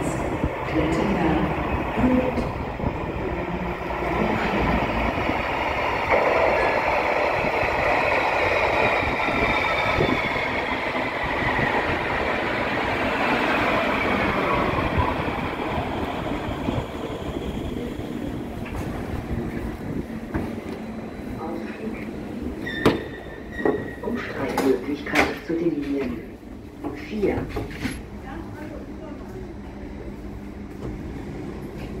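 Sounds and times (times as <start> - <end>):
wheels rumbling on rail: 0.0 - 32.0.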